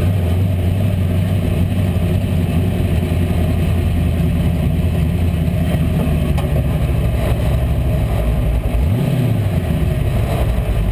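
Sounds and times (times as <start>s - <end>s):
car engine idling and revving: 0.0s - 10.9s.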